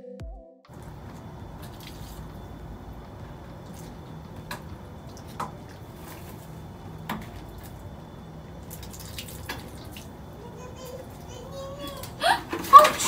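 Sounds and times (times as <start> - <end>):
low hum: 0.7 - 12.7.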